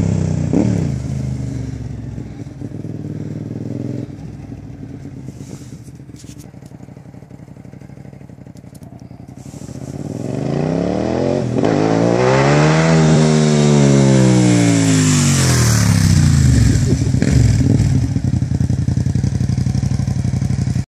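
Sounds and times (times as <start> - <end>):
motorcycle engine revving and idling: 0.0 - 20.9.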